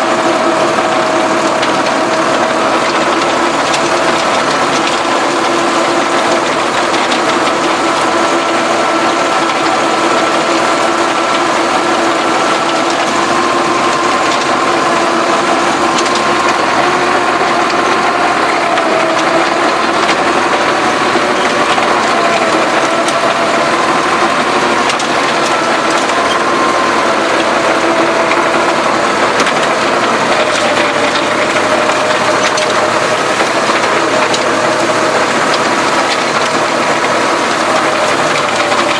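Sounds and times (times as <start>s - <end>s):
mechanical clatter: 0.0s - 38.9s
tractor engine running: 0.0s - 38.9s
whining tones: 0.0s - 38.9s.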